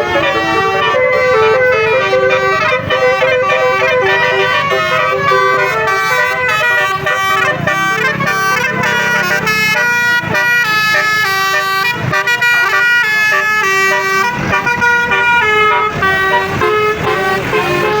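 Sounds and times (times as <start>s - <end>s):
bus multi-tone horn tune: 0.0s - 18.0s.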